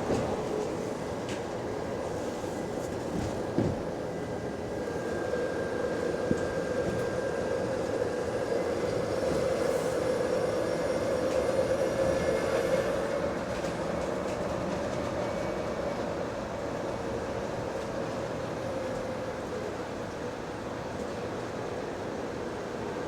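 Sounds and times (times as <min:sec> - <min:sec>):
bus drivetrain drone: 0:00.0 - 0:22.5.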